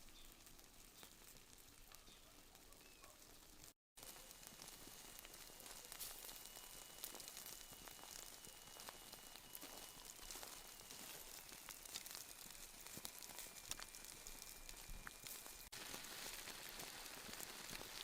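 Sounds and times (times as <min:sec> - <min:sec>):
food sizzling over wood fire: 0:00.0 - 0:18.0.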